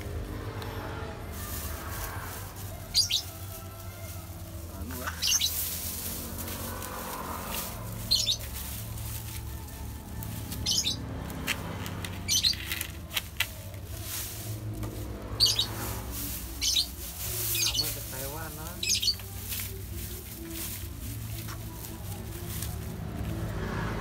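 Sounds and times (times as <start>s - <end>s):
dry grass rustling: 0.0s - 24.0s.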